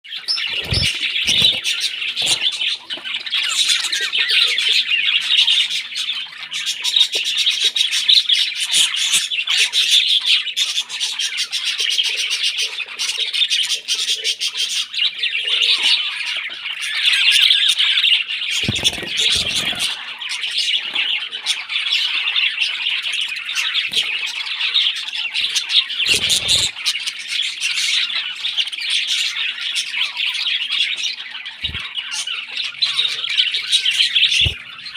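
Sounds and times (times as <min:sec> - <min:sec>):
baby parrots squawking: 0:00.1 - 0:13.0, 0:13.8 - 0:34.9.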